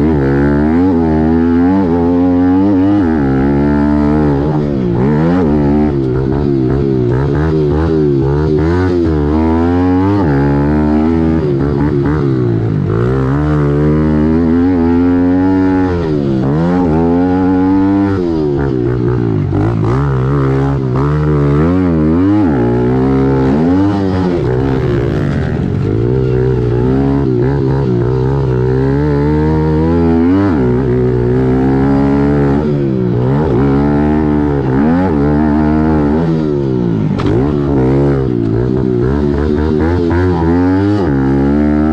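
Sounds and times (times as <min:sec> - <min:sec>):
small motorcycle engine revving: 0:00.0 - 0:41.9.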